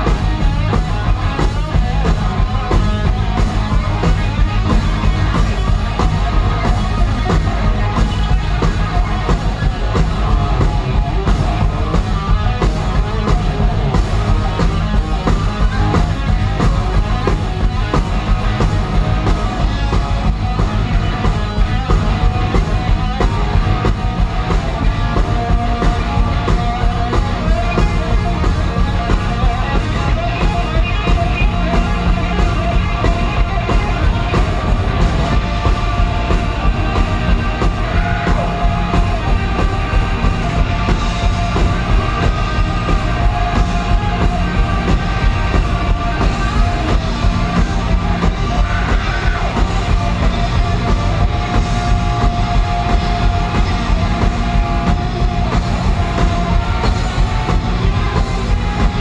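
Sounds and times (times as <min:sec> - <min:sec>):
bass guitar: 0:00.0 - 0:59.0
drums: 0:00.0 - 0:59.0
electric guitar: 0:00.0 - 0:59.0.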